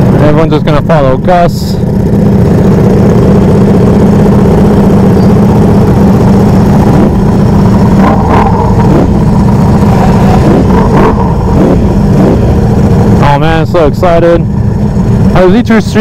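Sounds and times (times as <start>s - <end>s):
motorcycle engines idling: 0.0s - 16.0s.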